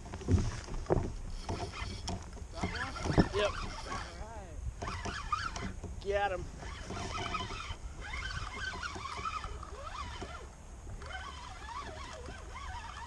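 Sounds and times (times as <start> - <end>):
water lapping against kayak hull: 0.0 - 13.0
wind: 0.0 - 13.0.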